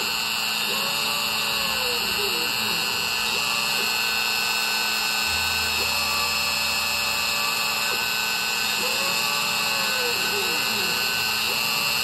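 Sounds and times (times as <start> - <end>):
motor tones gliding up and down: 0.0 - 12.0
router spindle whining: 0.0 - 12.0.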